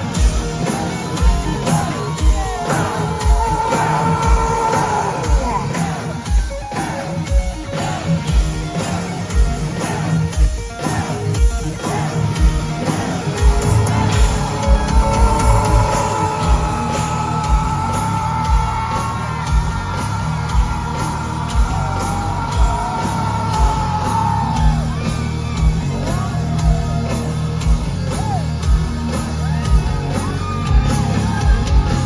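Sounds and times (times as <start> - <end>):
crowd yelling and whooping: 0.0 - 32.0
heavy drum beat: 0.0 - 32.0
heavy metal band playing live: 0.0 - 32.0.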